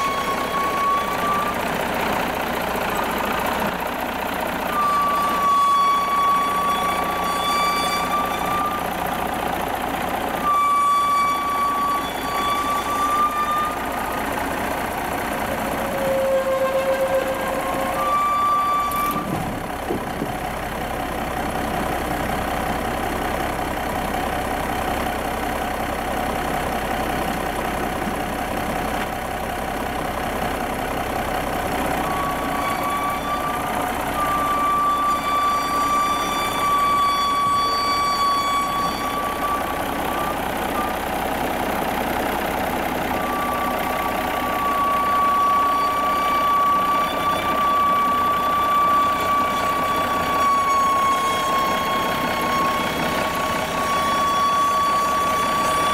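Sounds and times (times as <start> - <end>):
steady high squeal: 0.0 - 55.9
tractor diesel engine under load: 0.0 - 55.9.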